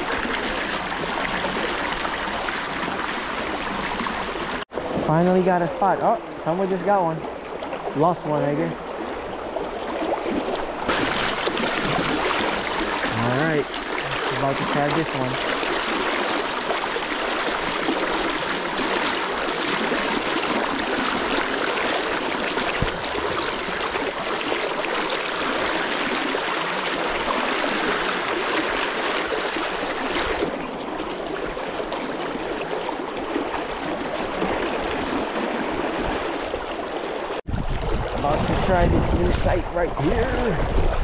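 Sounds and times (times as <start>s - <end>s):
river current rushing: 0.0s - 40.9s.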